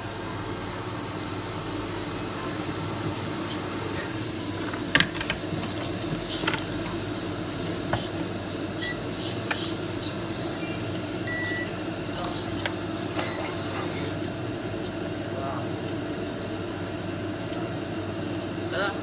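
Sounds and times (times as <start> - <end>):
fan-like mechanical hum: 0.0 - 19.0.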